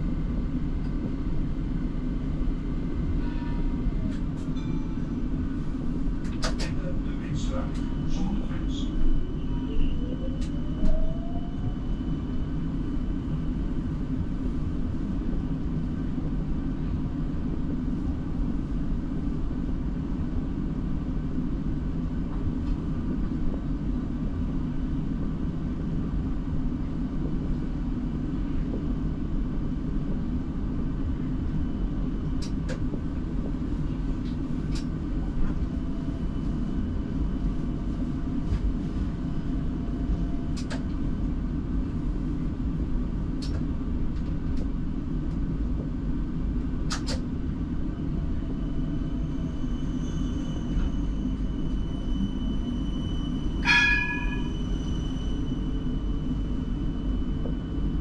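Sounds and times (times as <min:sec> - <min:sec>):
tram low rumble: 0:00.0 - 0:58.0.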